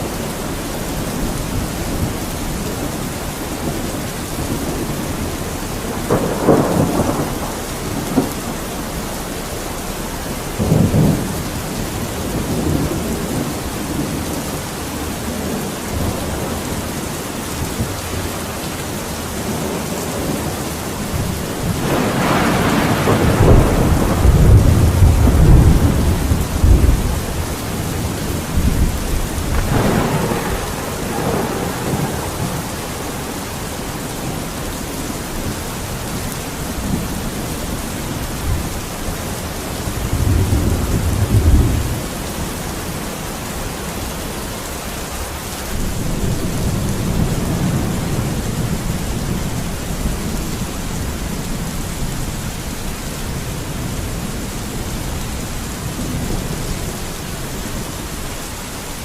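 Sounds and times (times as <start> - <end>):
thunder rumbling: 0.0 - 43.2, 45.0 - 59.0
steady rain: 0.0 - 59.0.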